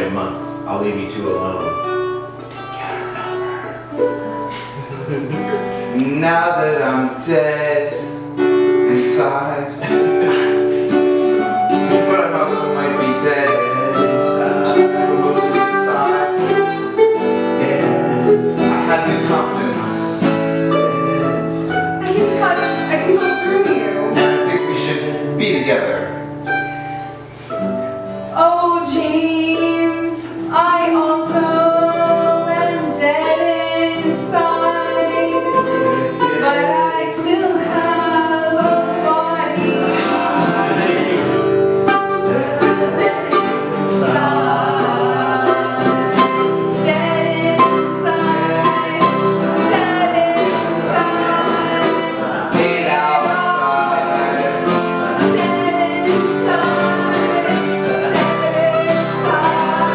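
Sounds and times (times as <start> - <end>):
person singing: 0.0 - 26.2, 28.3 - 59.9
plucked string accompaniment: 0.0 - 59.9.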